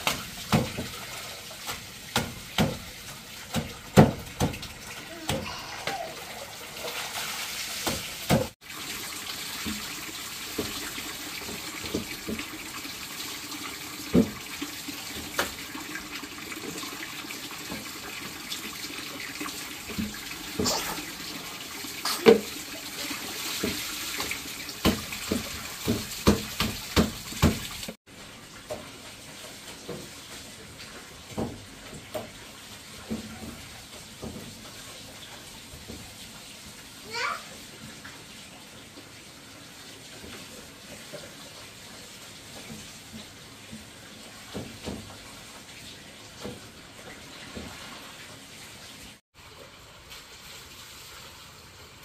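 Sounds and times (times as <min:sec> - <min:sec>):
water running: 0:00.0 - 0:52.0.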